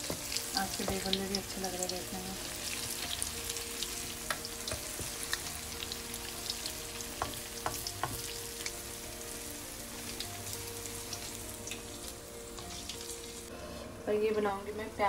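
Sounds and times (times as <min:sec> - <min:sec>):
food deep-frying in oil: 0:00.0 - 0:13.5.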